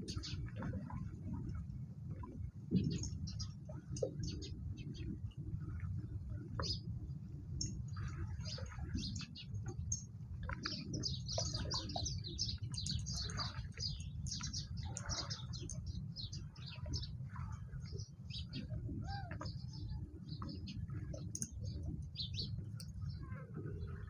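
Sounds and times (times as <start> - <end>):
small birds chirping: 0.0 - 1.6, 2.2 - 24.0
steady low rumble: 0.0 - 24.0.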